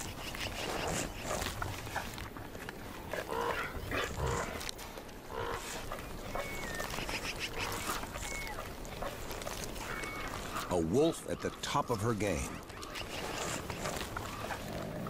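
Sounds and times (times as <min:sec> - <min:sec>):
meat tearing and chewing: 0:00.0 - 0:10.7, 0:12.7 - 0:15.0
wolves growling and snarling: 0:00.0 - 0:10.7, 0:12.7 - 0:15.0.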